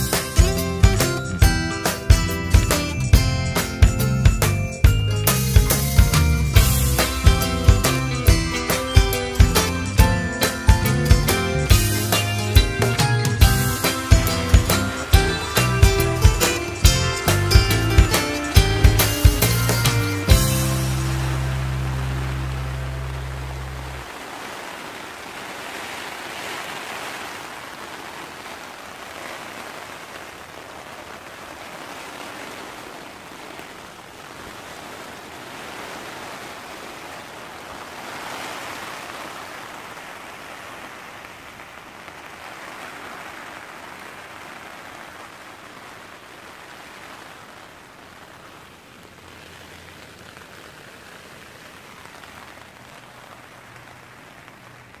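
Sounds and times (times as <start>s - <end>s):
rain on a tent: 0.0s - 55.0s.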